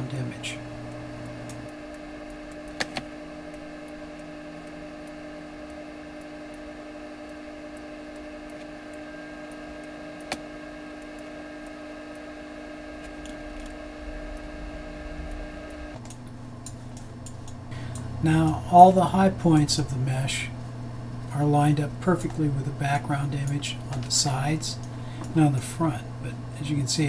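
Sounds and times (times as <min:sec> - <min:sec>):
electrical hum with hiss: 0:00.0 - 0:27.0.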